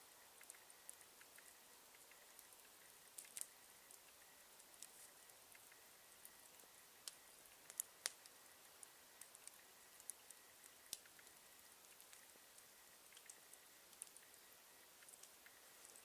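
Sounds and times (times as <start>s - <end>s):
campfire crackling: 0.1s - 16.0s.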